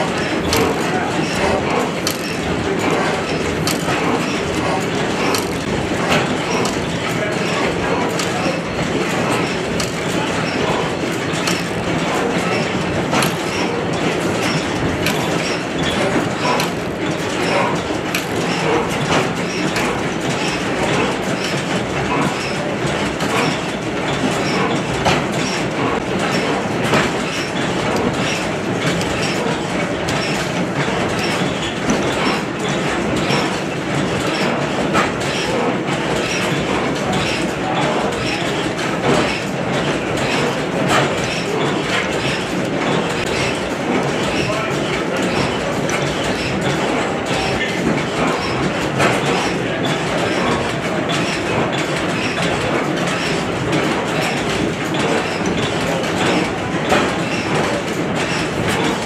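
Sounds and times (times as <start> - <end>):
stationary engines clattering: 0.0 - 59.0.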